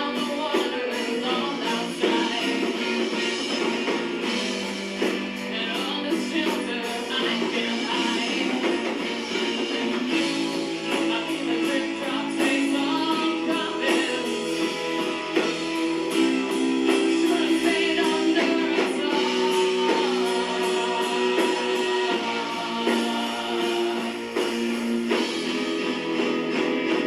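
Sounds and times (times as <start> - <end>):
rock band playing live: 0.0 - 27.0.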